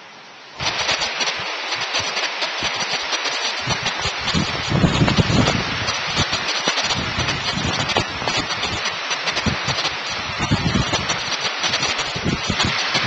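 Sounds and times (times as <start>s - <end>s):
heavy rain hissing: 0.0s - 13.0s
wind gusting over microphone: 0.6s - 13.0s.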